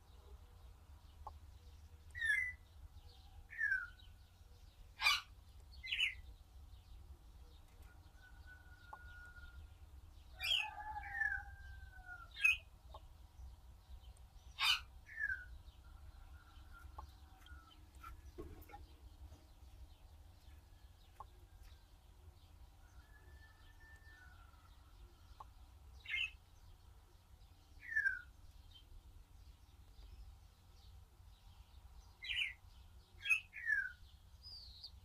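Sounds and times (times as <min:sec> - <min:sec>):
birds calling: 0:00.0 - 0:28.9.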